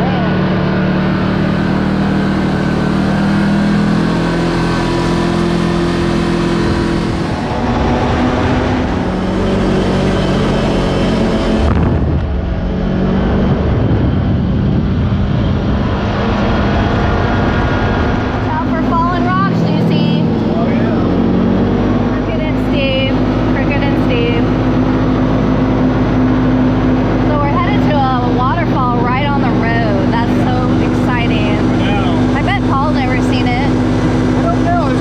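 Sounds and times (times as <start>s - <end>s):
drivetrain and tyre noise: 0.0s - 35.0s
side-by-side engine running: 0.0s - 35.0s.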